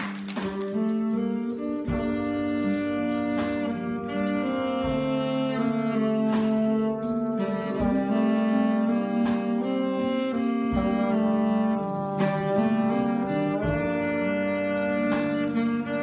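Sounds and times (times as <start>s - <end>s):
trombone and wind instrument playing: 0.0s - 16.0s
sustained low bass notes: 0.6s - 16.0s.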